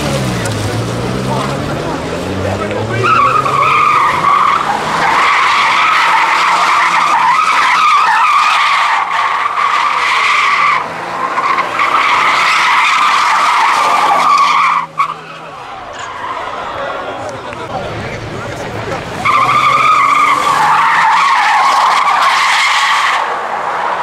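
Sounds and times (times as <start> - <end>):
faint car engine: 0.0 - 24.0
tyres screeching: 0.8 - 17.4, 18.6 - 24.0.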